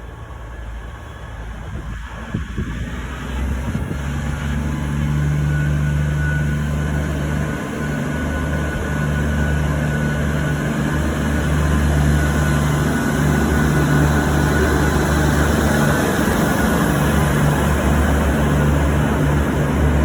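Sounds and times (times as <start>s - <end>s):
diesel railcar engine drone: 0.0s - 20.0s.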